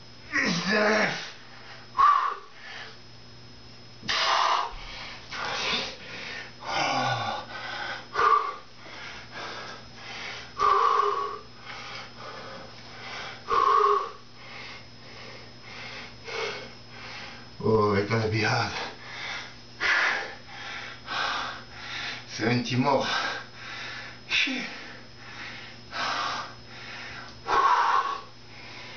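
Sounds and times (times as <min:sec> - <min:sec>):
man breathing hard: 0:00.3 - 0:03.0, 0:04.1 - 0:17.6, 0:18.7 - 0:22.3, 0:23.0 - 0:28.9.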